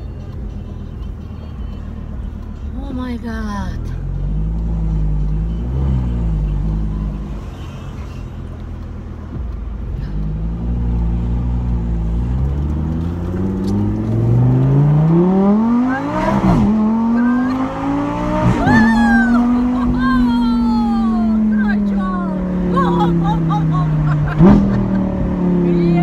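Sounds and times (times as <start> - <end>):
sports car engine revving: 1.9 - 7.5, 8.4 - 26.0.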